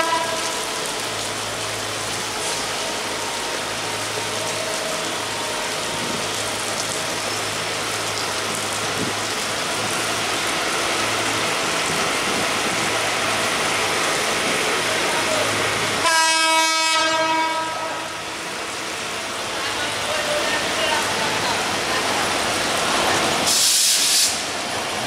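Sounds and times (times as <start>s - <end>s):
diesel locomotive hum: 0.0s - 25.0s
heavy rain falling: 0.0s - 25.0s.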